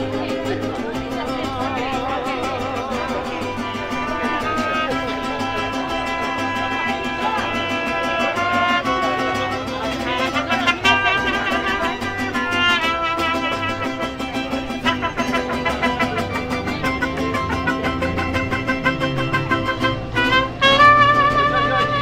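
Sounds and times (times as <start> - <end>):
strummed guitars: 0.0 - 22.0
trumpets playing melody: 4.1 - 22.0.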